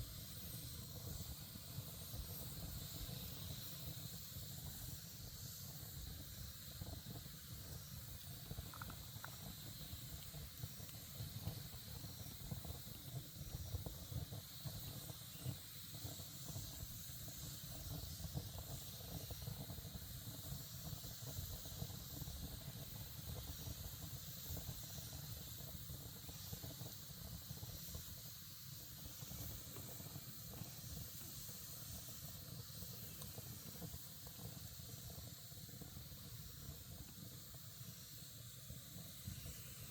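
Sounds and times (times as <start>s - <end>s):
campfire hissing: 0.0s - 39.9s
fire crackles and pops: 0.0s - 39.9s.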